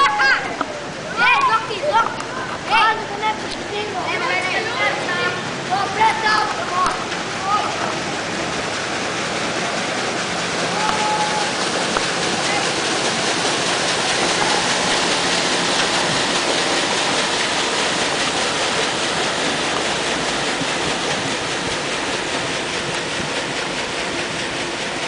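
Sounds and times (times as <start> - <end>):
paddle wheel churning water: 0.0 - 25.0.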